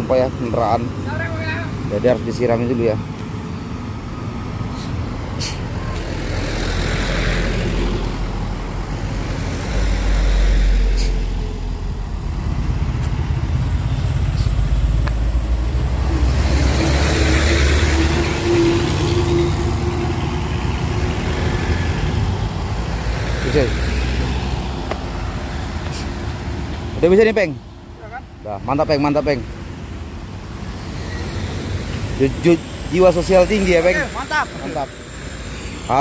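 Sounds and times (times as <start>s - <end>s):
heavy vehicles passing: 0.0s - 36.0s.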